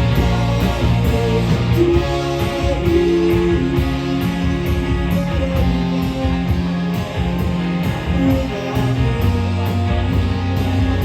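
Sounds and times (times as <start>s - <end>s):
bass guitar: 0.0s - 11.0s
electric guitars: 0.0s - 11.0s
steady drum beat: 0.0s - 11.0s.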